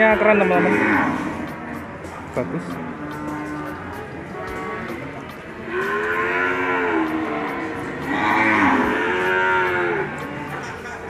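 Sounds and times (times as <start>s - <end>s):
cattle mooing: 0.0s - 1.6s, 2.6s - 10.8s.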